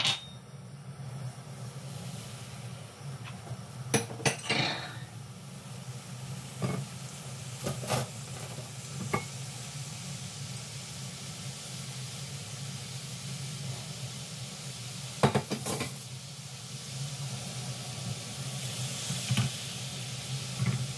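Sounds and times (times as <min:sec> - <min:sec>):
sugar sizzling in a pan: 0:00.0 - 0:20.9.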